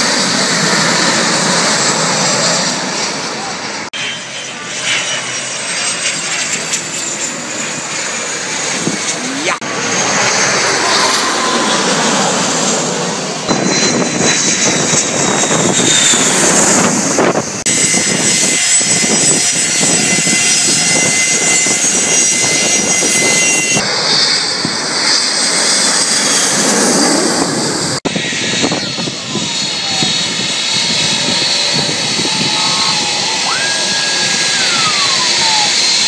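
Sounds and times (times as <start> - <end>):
airliner passing overhead: 0.0 - 36.0
jet engines whining: 0.0 - 36.0.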